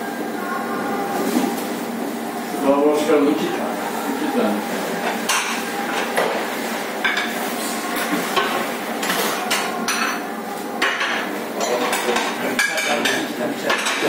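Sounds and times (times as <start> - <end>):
kitchen noise: 0.3 - 14.0.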